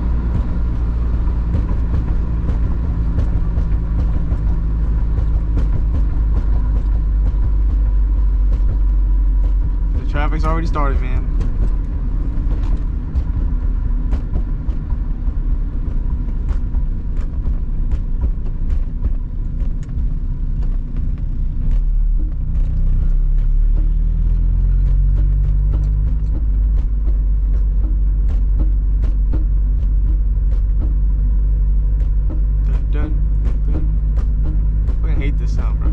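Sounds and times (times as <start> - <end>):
car engine and road rumble: 0.0 - 35.9.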